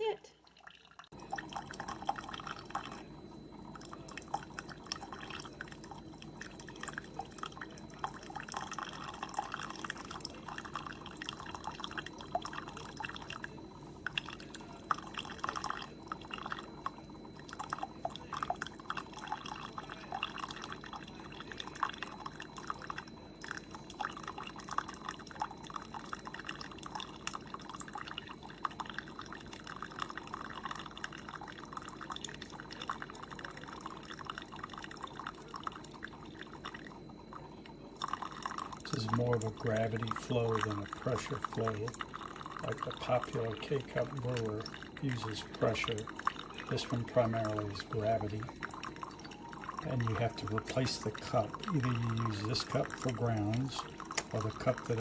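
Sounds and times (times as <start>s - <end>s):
coffee dripping into mug: 0.4s - 55.0s
faint low machine hum: 1.1s - 55.0s.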